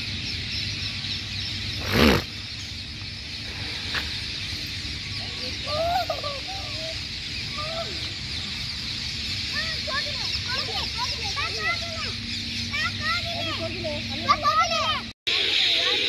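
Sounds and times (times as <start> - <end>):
lower bird calls: 0.0 - 14.0
flock of parakeets chirping: 0.0 - 16.0.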